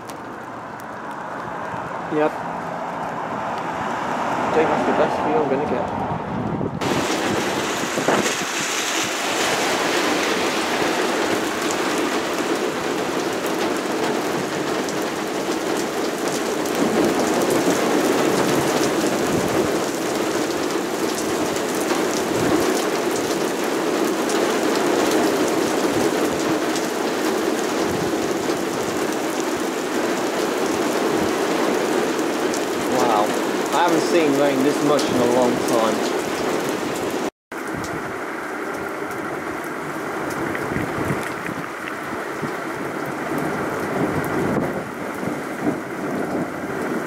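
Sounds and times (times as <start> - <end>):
heavy rain hissing: 6.8 - 47.0.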